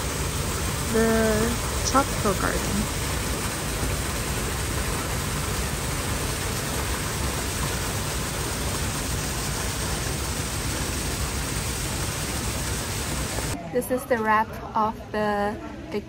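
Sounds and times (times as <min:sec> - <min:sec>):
waterfall into pond: 0:00.0 - 0:13.6.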